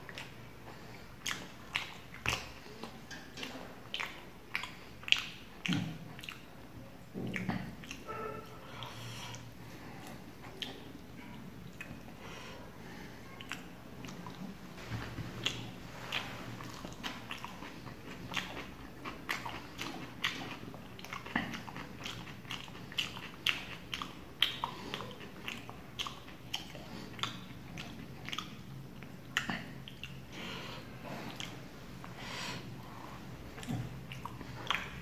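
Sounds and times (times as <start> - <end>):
wet chewing mouth clicks: 0.0 - 12.3, 13.3 - 32.6, 33.3 - 35.0.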